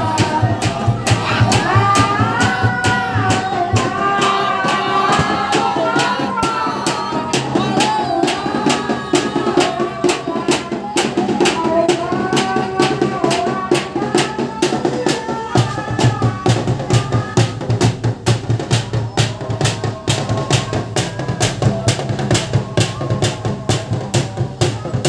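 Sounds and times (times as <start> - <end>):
fast drumming: 0.0 - 25.0
voices chanting: 0.0 - 25.0.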